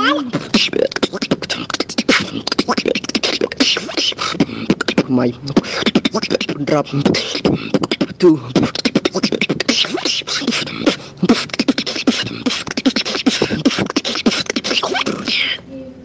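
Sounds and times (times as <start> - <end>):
person beatboxing: 0.0 - 15.7.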